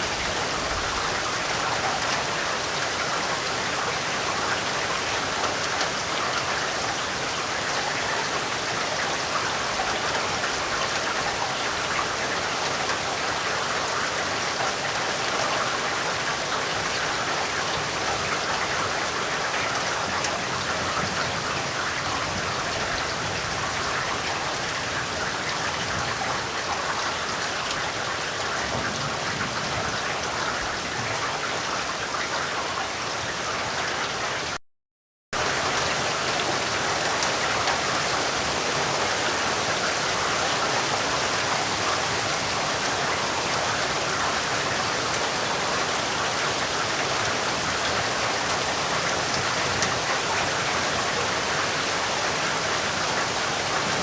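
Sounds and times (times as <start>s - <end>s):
steady rain falling: 0.0s - 34.6s, 35.4s - 54.0s.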